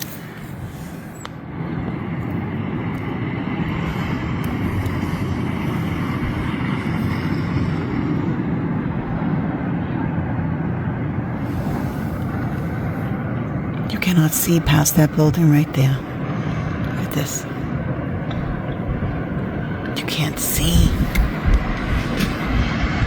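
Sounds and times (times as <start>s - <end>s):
strong blizzard wind: 0.0s - 23.0s.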